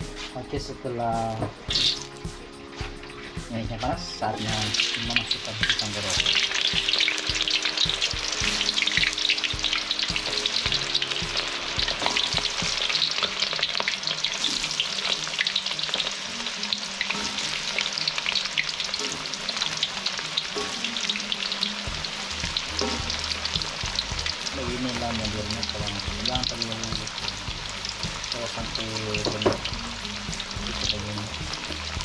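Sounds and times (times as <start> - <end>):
oil sizzling while deep-frying: 0.0 - 32.0.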